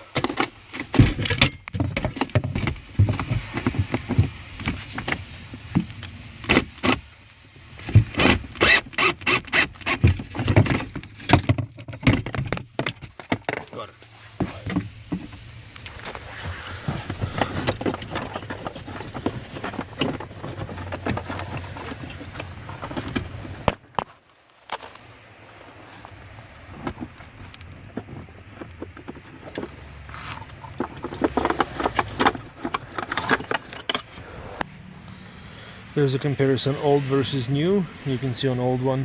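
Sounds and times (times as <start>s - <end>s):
hand tools clicking and scraping: 0.0s - 25.0s, 26.8s - 34.8s.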